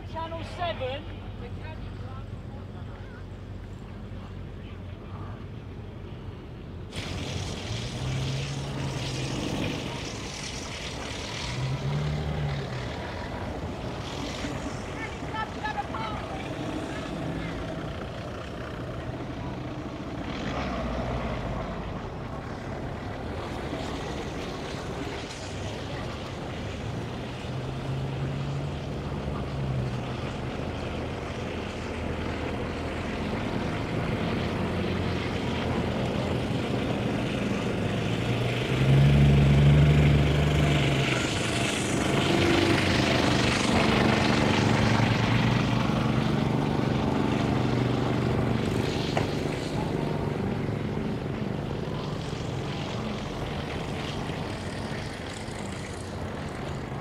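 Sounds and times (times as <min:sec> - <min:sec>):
van engines running: 0:00.0 - 0:57.0.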